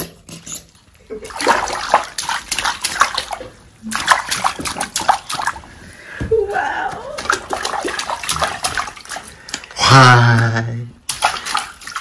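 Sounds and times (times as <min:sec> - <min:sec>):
hands splashing bathwater: 0:01.0 - 0:12.0.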